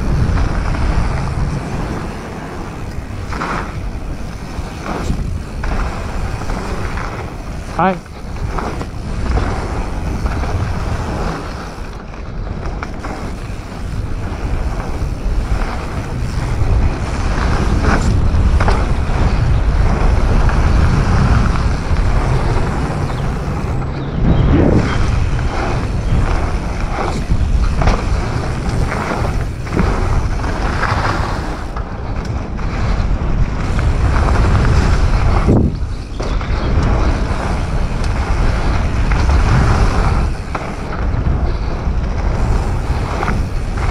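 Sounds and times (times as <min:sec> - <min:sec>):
bike knocking and rattling: 0:00.0 - 0:43.9
bike tyre noise on dirt: 0:00.0 - 0:43.9
wind rushing over microphone: 0:00.0 - 0:43.9.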